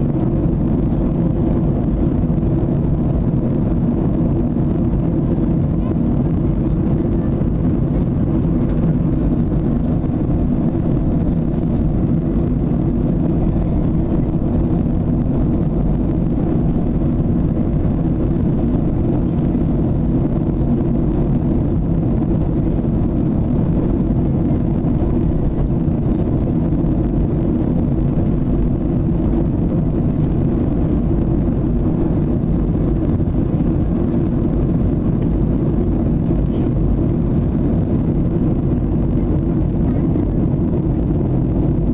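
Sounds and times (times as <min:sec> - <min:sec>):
airplane engine drone: 0:00.0 - 0:41.9.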